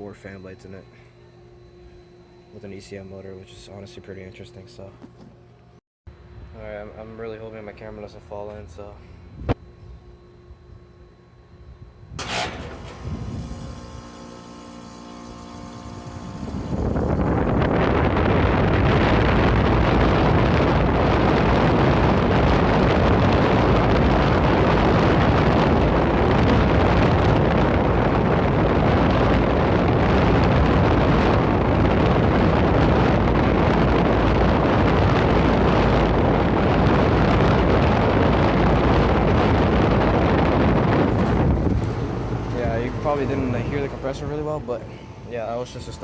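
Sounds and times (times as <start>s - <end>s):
air conditioner fan rushing: 0.0s - 46.0s
compressor humming: 0.0s - 46.0s.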